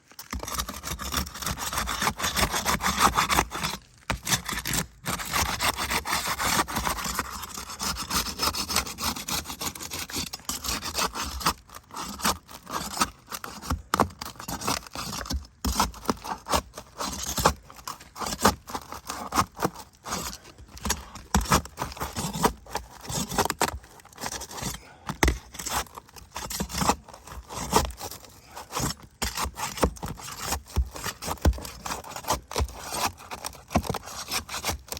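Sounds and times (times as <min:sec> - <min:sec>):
scraping and rubbing: 0:00.0 - 0:34.9.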